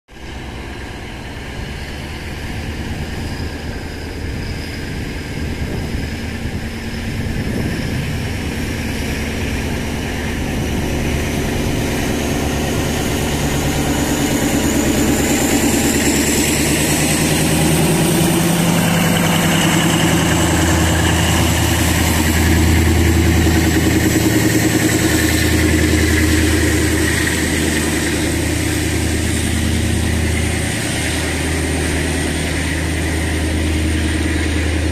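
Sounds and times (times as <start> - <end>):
diesel locomotive engine: 0.1 - 34.9
high whine: 0.2 - 34.9.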